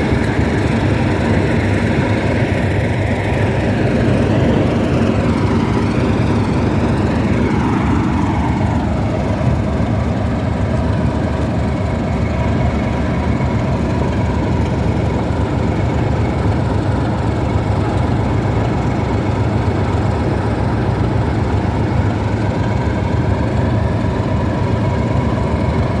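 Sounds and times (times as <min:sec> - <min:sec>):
diesel locomotive engines rumbling: 0:00.0 - 0:26.0.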